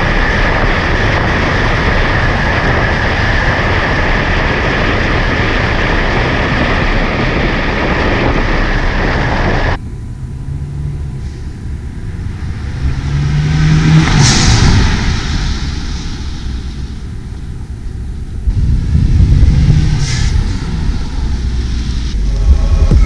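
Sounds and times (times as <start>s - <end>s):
car engine hum: 0.0s - 23.0s
road and wind noise: 0.0s - 23.0s
steady whine: 0.0s - 23.0s.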